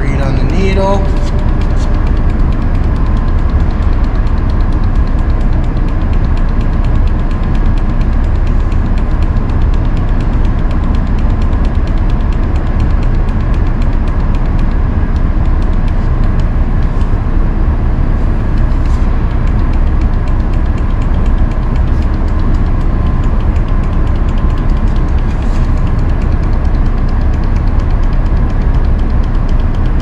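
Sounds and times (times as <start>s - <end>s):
faint hum: 0.0s - 30.0s
fast even ticking: 0.0s - 30.0s
industrial machinery drone: 0.0s - 30.0s.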